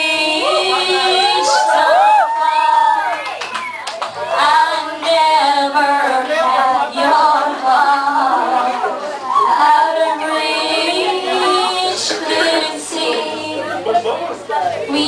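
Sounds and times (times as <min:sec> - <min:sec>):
women singing together: 0:00.0 - 0:02.2, 0:04.2 - 0:14.1.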